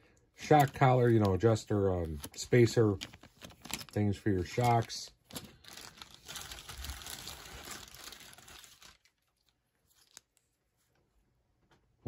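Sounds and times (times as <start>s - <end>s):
plastic bag crinkling: 0.4s - 10.4s.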